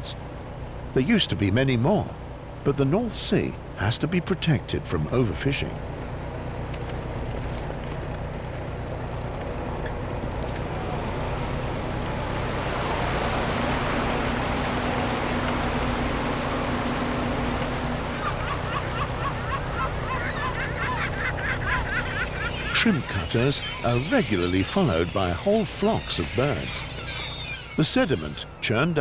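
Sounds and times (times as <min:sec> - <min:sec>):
boat engine running: 0:02.5 - 0:29.0
water rushing along hull: 0:02.9 - 0:29.0
gulls calling: 0:03.3 - 0:29.0.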